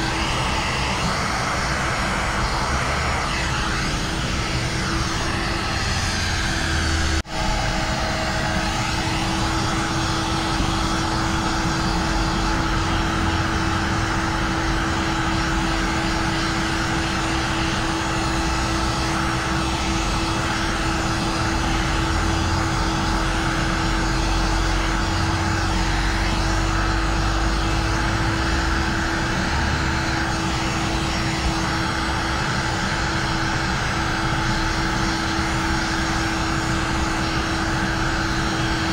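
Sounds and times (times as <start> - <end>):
heat gun fan humming: 0.0 - 38.9.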